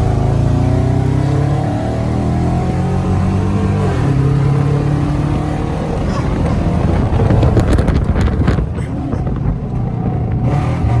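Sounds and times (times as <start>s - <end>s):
car engine rumbling: 0.0s - 11.0s
wind buffeting microphone: 2.1s - 11.0s.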